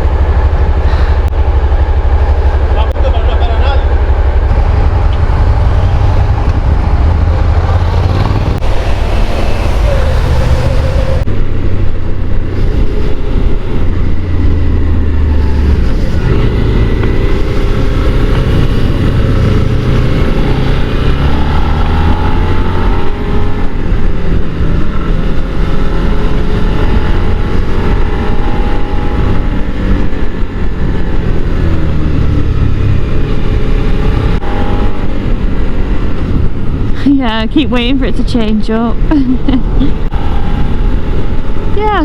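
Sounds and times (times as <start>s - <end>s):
motorcycle engine: 0.0s - 42.0s
wind rumble: 0.0s - 42.0s.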